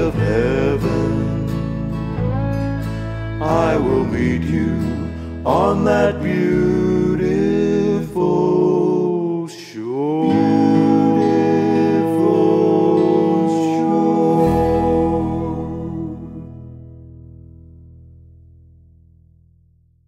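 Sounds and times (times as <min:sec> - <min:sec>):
country gospel singing with band: 0:00.0 - 0:16.8.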